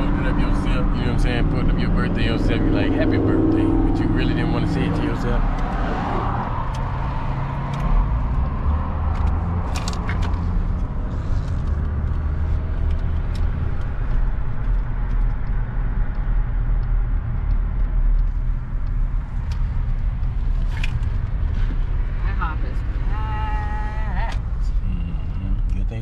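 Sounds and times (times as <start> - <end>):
car rumbling on road: 0.0 - 26.0.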